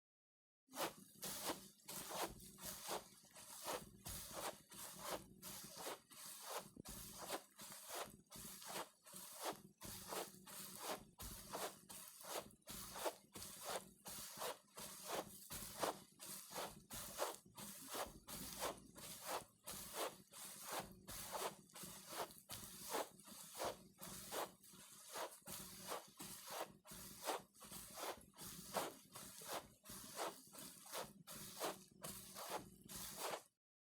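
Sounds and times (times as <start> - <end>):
footsteps on carpet: 0.8 - 33.5.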